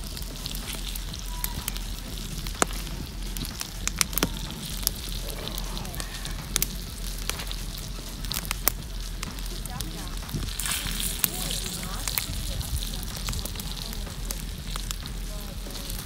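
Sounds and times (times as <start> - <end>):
fire popping and crackling: 0.0 - 16.0
liver sizzling in skillet: 0.0 - 16.0.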